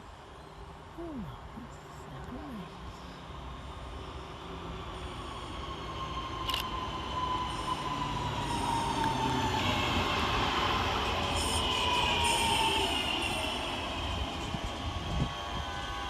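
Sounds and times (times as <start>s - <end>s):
electric train traction whine: 3.0s - 16.0s.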